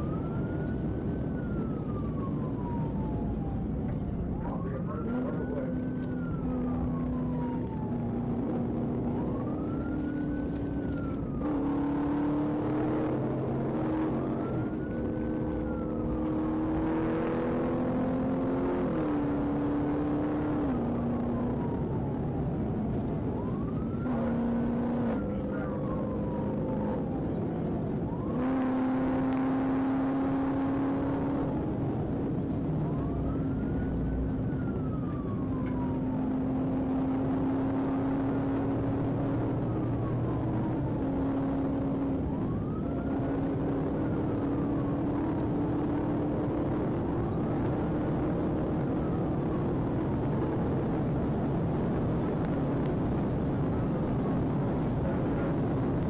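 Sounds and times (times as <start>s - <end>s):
police siren wailing: 0.0s - 56.0s
car engine running hard: 2.6s - 56.0s.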